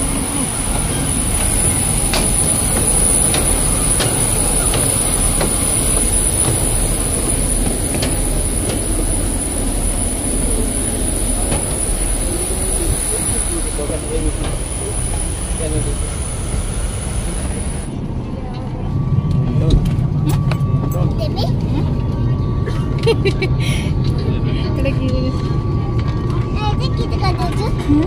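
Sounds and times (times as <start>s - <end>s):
high-pitched whine: 0.0s - 23.3s
aircraft roar: 0.0s - 28.0s.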